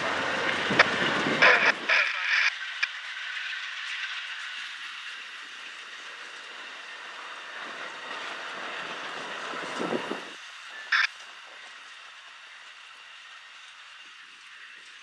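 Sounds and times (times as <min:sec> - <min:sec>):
train wheels rumbling on track: 0:00.0 - 0:15.0
wheels clacking over rail joints: 0:00.0 - 0:15.0.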